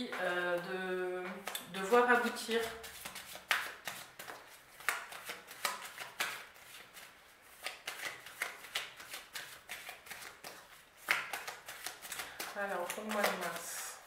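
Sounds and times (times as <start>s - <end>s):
cards being shuffled: 1.3s - 13.8s.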